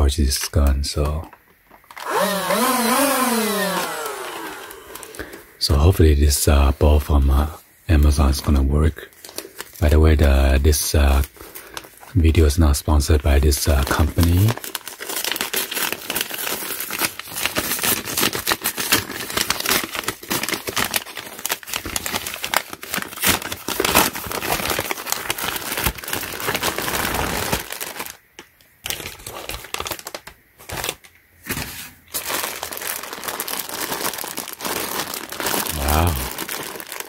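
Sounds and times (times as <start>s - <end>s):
plastic bag crinkling: 0.2s - 5.8s, 8.2s - 37.0s
paper mailer tearing and rustling: 0.3s - 5.4s, 9.1s - 28.2s, 28.8s - 37.0s.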